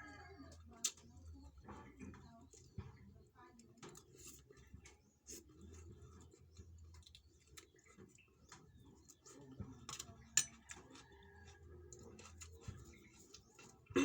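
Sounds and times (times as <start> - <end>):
eating sounds: 0.5 - 14.0.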